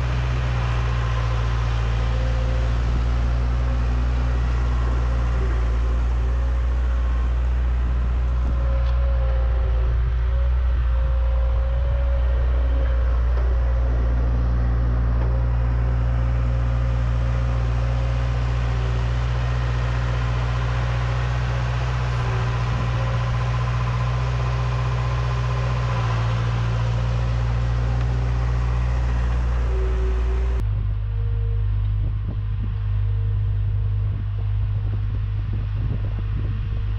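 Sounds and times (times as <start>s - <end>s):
skid steer engine running: 0.0s - 36.9s.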